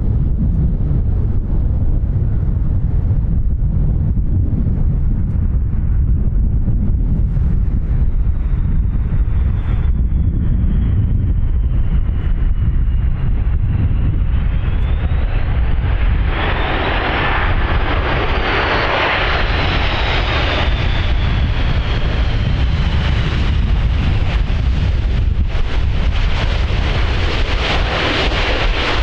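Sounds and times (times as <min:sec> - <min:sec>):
jet airliner passing: 0:00.0 - 0:29.0
wind rumble on microphone: 0:00.0 - 0:29.0.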